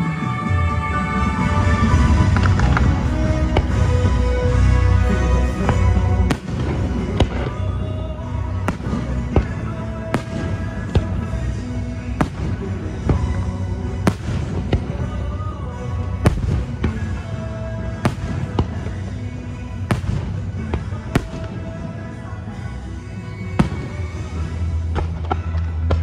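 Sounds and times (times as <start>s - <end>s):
show music: 0.0s - 26.0s
fireworks bursting with sharp bangs: 0.9s - 26.0s.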